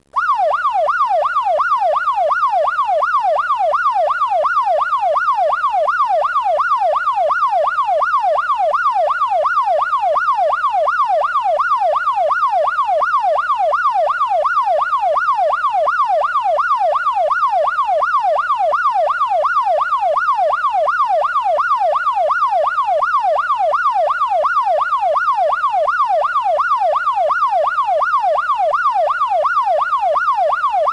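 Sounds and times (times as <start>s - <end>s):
police siren yelp: 0.1s - 30.9s.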